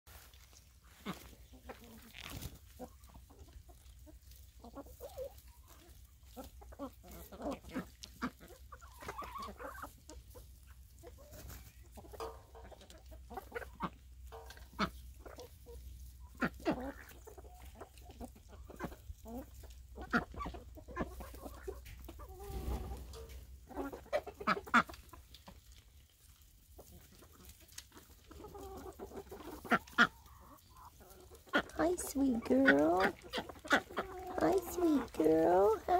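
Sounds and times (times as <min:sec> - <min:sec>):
chickens clucking: 0:00.1 - 0:35.9.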